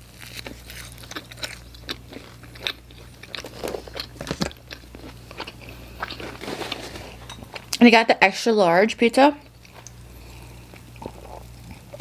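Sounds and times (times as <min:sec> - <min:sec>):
crunchy chewing: 0:00.0 - 0:07.8, 0:09.4 - 0:12.0.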